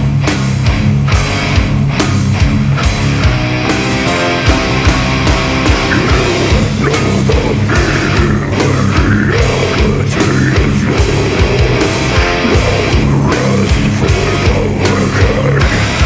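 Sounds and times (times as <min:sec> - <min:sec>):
bass guitar: 0:00.0 - 0:16.0
distorted electric guitars: 0:00.0 - 0:16.0
drums pounding: 0:00.0 - 0:16.0.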